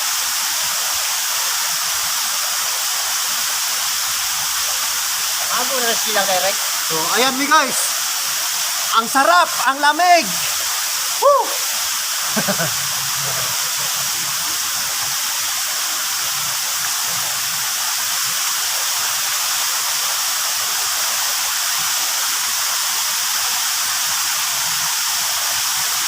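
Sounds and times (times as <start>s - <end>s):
waterfall pouring: 0.0s - 26.0s.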